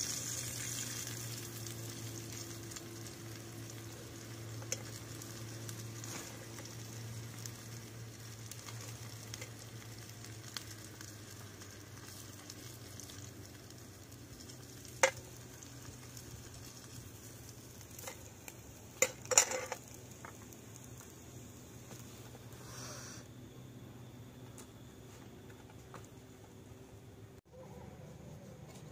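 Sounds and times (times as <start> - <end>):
food sizzling in a pan: 0.0 - 23.2.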